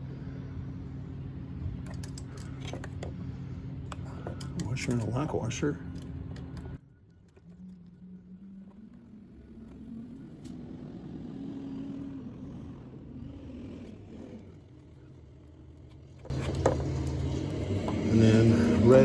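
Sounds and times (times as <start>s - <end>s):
distant engine running: 0.0s - 19.0s.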